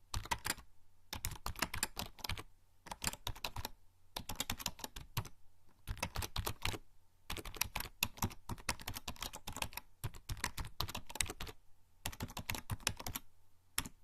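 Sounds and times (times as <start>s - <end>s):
typing on computer keyboard: 0.1s - 14.0s.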